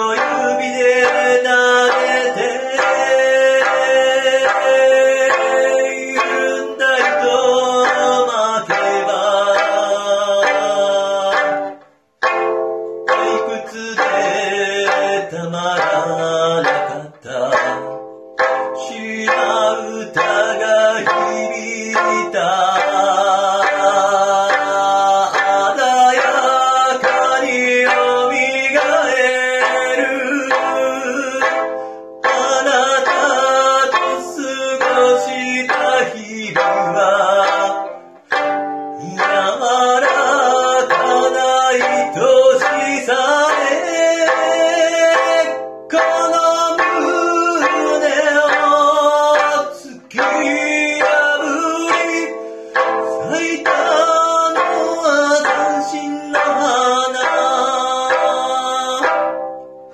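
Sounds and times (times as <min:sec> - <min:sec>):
person singing: 0:00.0 - 0:59.9
plucked lute chords: 0:00.0 - 0:59.9.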